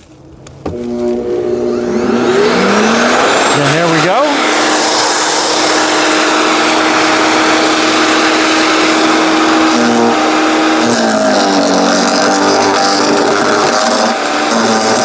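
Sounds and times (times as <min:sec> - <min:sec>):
wood chipper motor whirring: 0:00.0 - 0:15.0.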